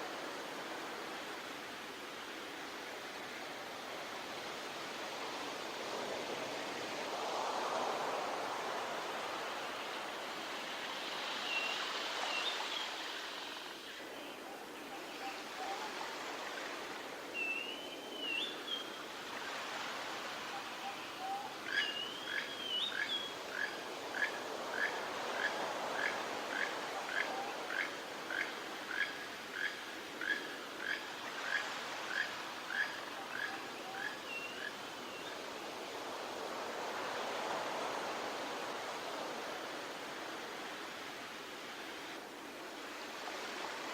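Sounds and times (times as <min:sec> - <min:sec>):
surf washing: 0:00.0 - 0:43.9.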